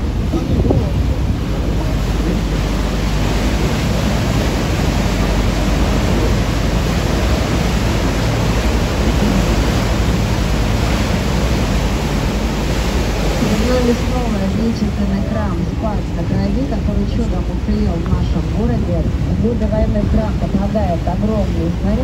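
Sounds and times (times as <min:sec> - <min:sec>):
boat engine hum: 0:00.0 - 0:22.0
wind and water rushing: 0:00.0 - 0:22.0.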